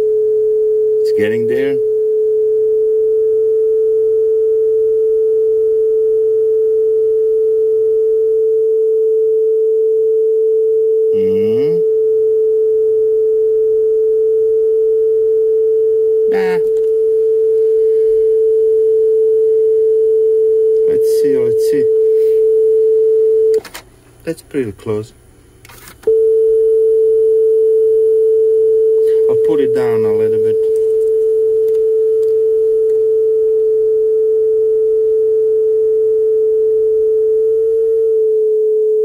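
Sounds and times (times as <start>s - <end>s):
steady pure test tone: 0.0s - 23.6s, 26.0s - 39.0s.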